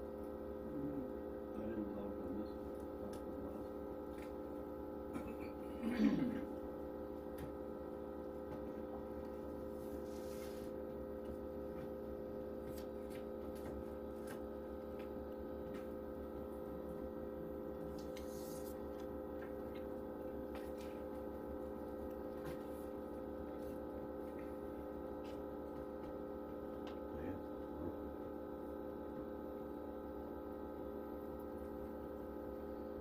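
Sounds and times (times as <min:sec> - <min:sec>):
machine humming: 0:00.0 - 0:33.0.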